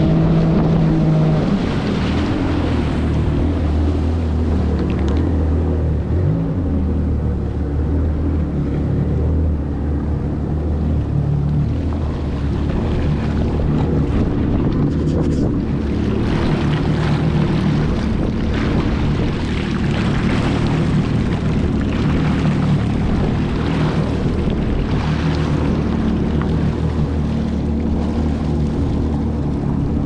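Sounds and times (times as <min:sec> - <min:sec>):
jet ski engine running: 0:00.0 - 0:30.0
water splashing against hull: 0:00.0 - 0:30.0.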